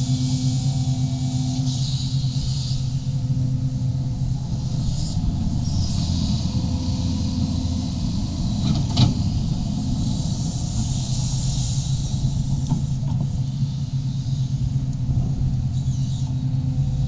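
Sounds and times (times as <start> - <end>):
excavator diesel engine droning: 0.0 - 17.0
hiss: 0.0 - 17.0.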